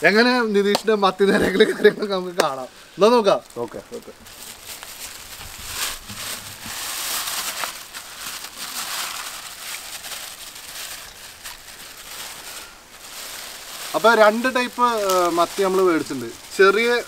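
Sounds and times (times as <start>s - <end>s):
plastic bag crinkling: 2.4s - 17.0s.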